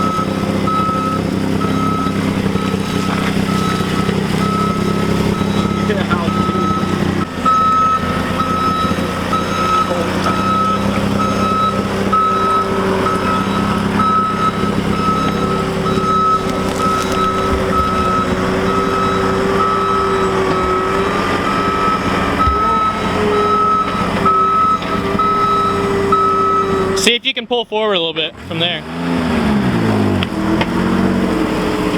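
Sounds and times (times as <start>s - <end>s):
reversing alarm beeping: 0.0s - 27.1s
engine running: 0.0s - 27.2s, 28.3s - 31.9s.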